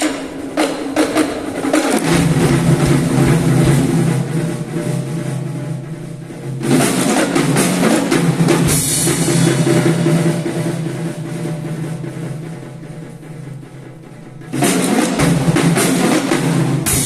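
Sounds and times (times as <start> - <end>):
percussion ensemble drumming: 0.0 - 17.0.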